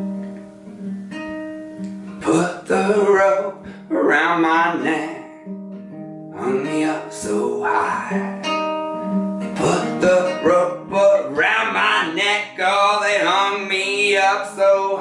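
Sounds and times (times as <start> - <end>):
classical guitar chords: 0.0 - 15.0.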